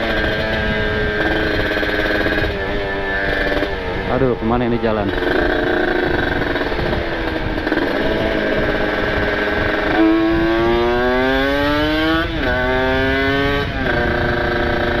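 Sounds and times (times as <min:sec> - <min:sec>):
two-stroke motorcycle accelerating: 0:00.0 - 0:15.0.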